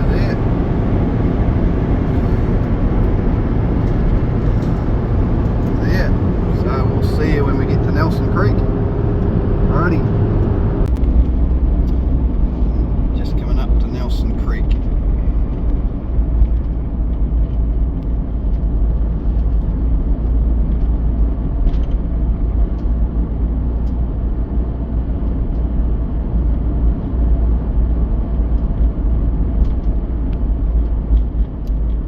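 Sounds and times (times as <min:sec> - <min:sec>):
vehicle driving rumble: 0:00.0 - 0:32.0.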